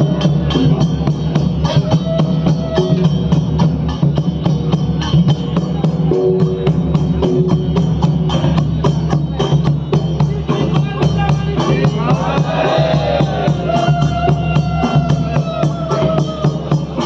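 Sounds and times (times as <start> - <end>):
drums and percussion beat: 0.0 - 17.0.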